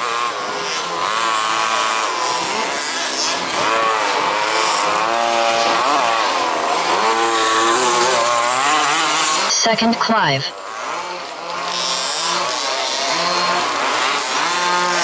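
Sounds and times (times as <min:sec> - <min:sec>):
rc car engines revving: 0:00.0 - 0:15.0.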